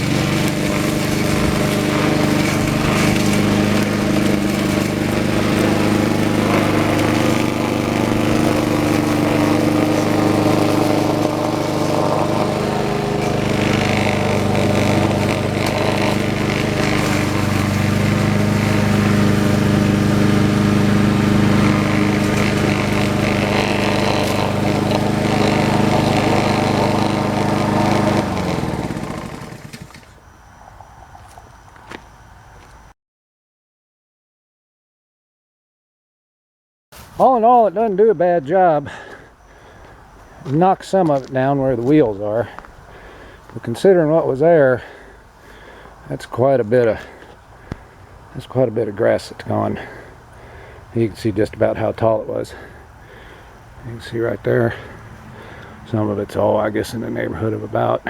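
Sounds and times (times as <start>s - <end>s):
lawn mower engine running: 0.0s - 30.2s, 37.0s - 58.0s.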